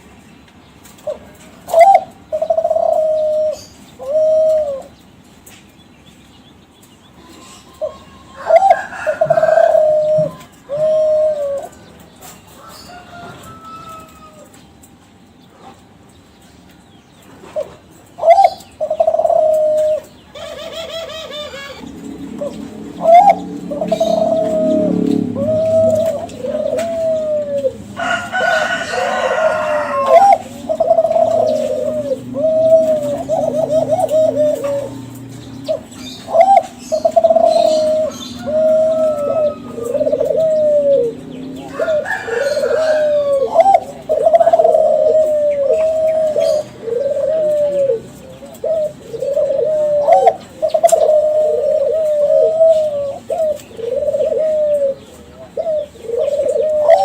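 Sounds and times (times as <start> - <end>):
dove cooing: 1.0 - 5.0, 7.2 - 14.6, 17.4 - 57.0.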